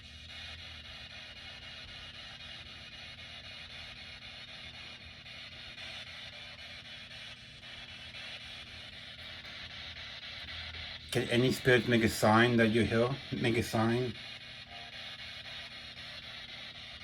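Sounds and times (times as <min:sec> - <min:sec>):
low hum: 0:00.0 - 0:17.0
radio static hiss: 0:00.0 - 0:17.0.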